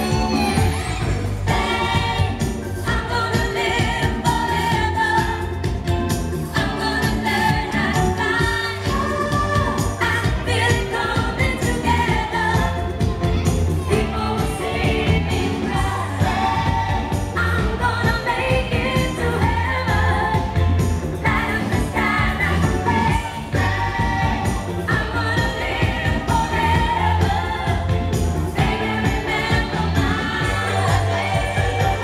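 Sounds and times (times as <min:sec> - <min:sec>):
pop song with singing: 0:00.0 - 0:32.0.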